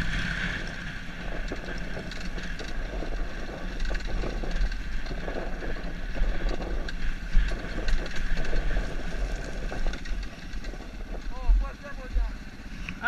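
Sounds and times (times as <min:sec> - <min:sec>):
motorcycle engine running: 0:00.0 - 0:13.0
wind buffeting microphone: 0:00.0 - 0:13.0
bike knocking over rough ground: 0:01.2 - 0:12.4.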